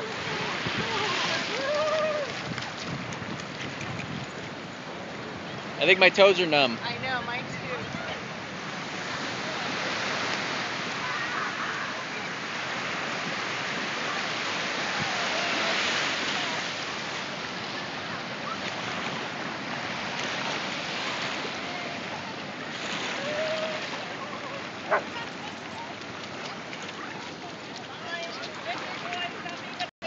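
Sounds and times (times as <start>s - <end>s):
ocean surf washing over sand: 0.0s - 29.9s.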